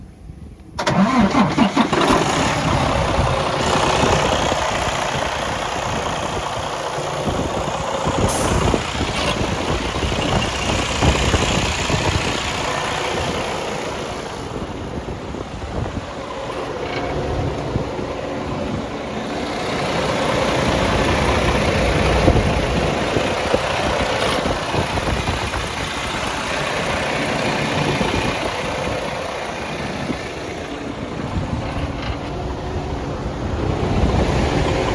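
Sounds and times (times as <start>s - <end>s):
diesel truck engine starting and idling: 0.0s - 34.9s.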